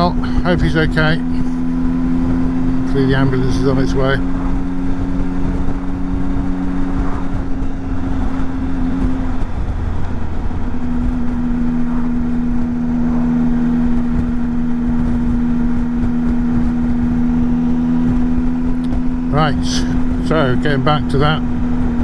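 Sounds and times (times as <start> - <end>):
low wind rumble: 0.0 - 22.0
motorcycle engine running: 0.0 - 22.0.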